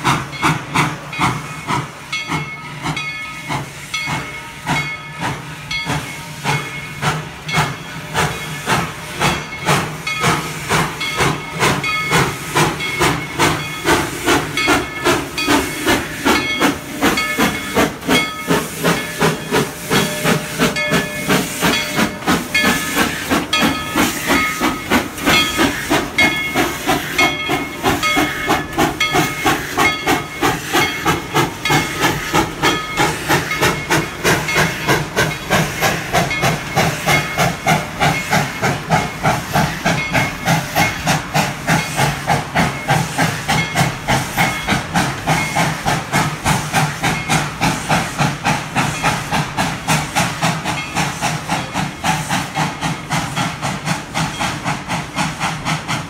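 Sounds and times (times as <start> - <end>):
hissing steam: 0.0 - 56.0
steam locomotive chuffing: 0.0 - 56.0.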